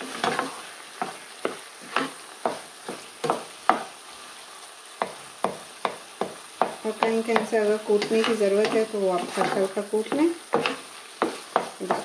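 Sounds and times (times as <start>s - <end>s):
wooden spatula scraping a pan: 0.0s - 3.9s, 6.2s - 12.0s
soft sizzle: 0.0s - 12.0s.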